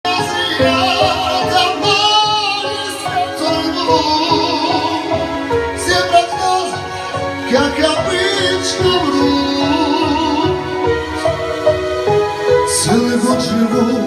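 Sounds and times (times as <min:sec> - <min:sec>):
song with vibrato melody and beat: 0:00.0 - 0:14.0.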